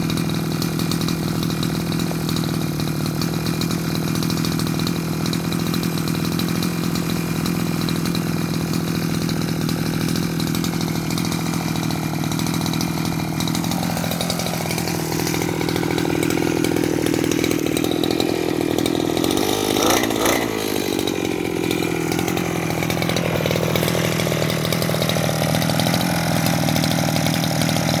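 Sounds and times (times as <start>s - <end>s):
small two-stroke engine buzzing: 0.0s - 28.0s.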